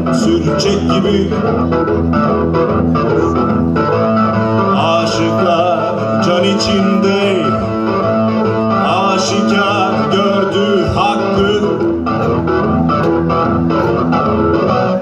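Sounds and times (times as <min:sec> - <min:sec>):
electric guitar folk melody: 0:00.0 - 0:15.0.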